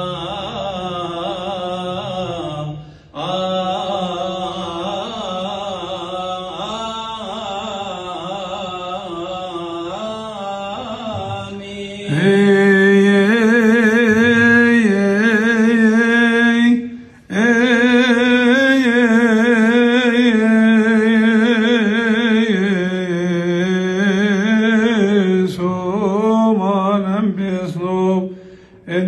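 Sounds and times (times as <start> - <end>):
man chanting into a microphone: 0.0 - 29.0.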